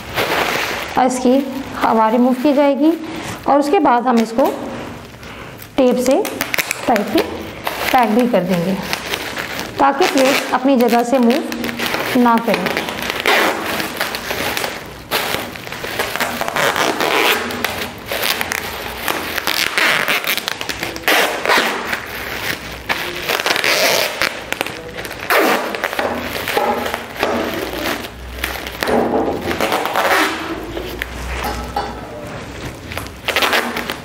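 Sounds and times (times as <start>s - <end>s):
adhesive tape pulled off roll: 0.0s - 1.6s, 4.1s - 31.5s, 32.5s - 34.0s
plastic bag crinkling: 0.0s - 34.0s.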